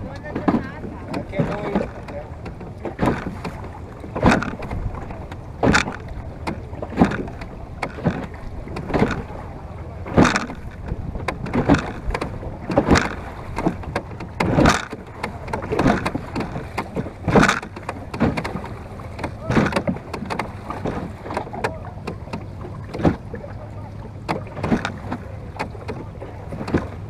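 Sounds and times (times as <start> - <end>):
low rush of water: 0.0 - 27.0
water splashing against boat: 0.0 - 27.0
wind: 0.0 - 27.0.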